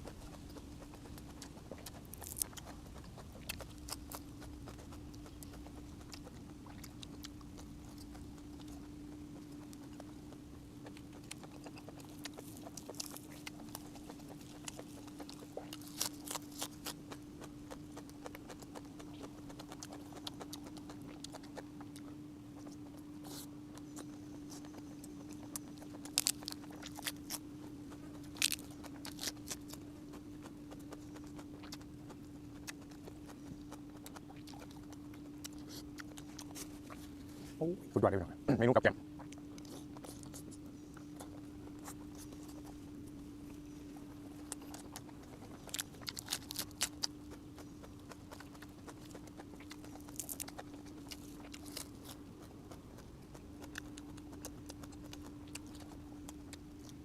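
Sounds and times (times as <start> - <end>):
person chewing and eating: 0.0 - 37.6, 38.4 - 57.0
low hum: 0.0 - 57.0.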